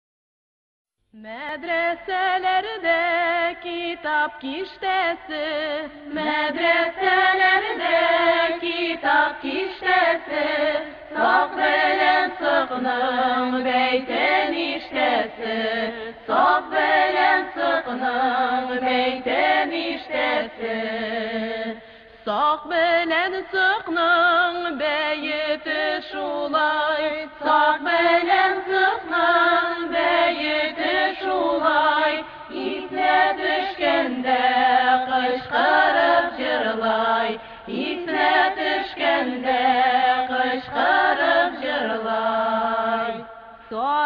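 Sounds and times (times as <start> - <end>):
folk song with vibrato singing: 1.1 - 44.0.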